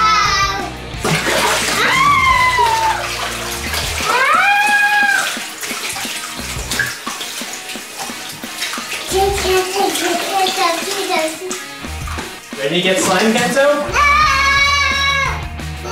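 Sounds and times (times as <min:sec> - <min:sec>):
slime splashing and squelching: 0:01.0 - 0:14.0.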